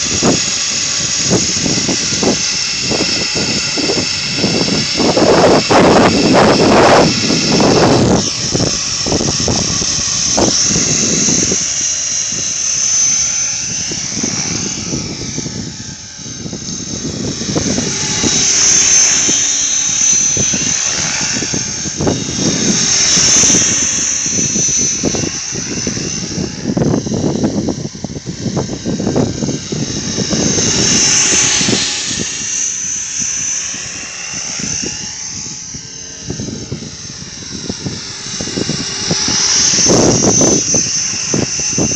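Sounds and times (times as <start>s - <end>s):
radio-controlled helicopter whine: 0.0s - 41.9s
wind buffeting microphone: 0.0s - 41.9s.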